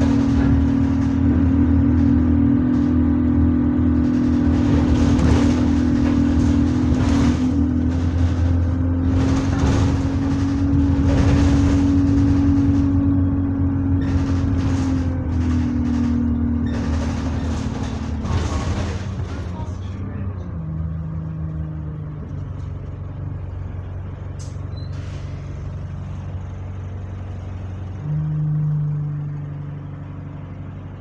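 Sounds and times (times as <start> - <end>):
bus engine hum: 0.0 - 31.0
rattling bumps: 0.0 - 31.0.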